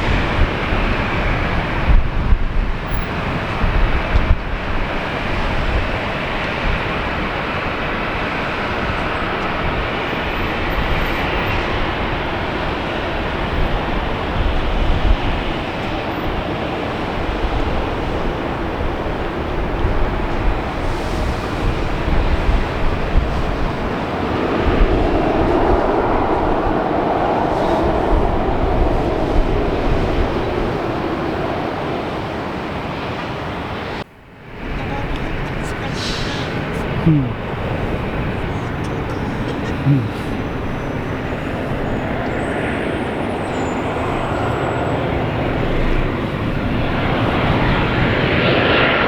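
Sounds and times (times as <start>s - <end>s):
jet engine rushing: 0.0s - 49.0s
wind buffeting microphone: 0.0s - 49.0s.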